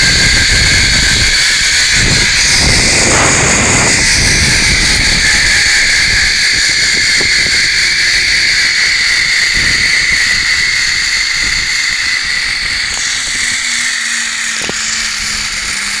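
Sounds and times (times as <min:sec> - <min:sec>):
wind rumbling on microphone: 0:00.0 - 0:16.0
zipline pulleys whining on cable: 0:00.0 - 0:16.0.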